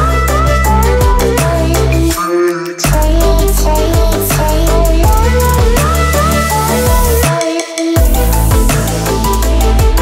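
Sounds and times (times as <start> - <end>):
music with bass beat: 0.0 - 10.0.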